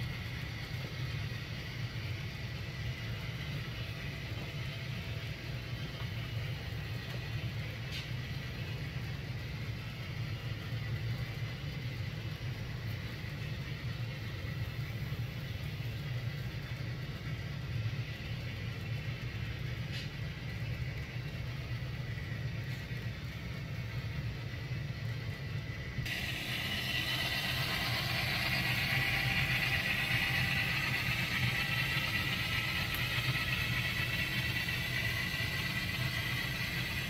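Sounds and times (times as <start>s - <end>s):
model train rumbling on track: 0.0s - 37.0s.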